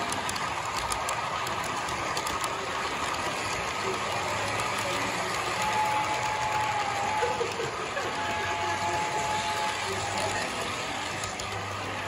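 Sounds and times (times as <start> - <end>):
model train wheels rolling: 0.0 - 12.0.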